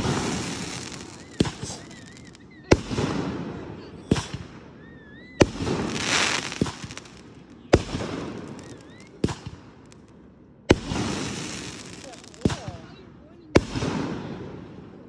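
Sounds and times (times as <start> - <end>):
firework bangs: 0.0 - 4.8, 5.4 - 10.1, 10.7 - 15.0.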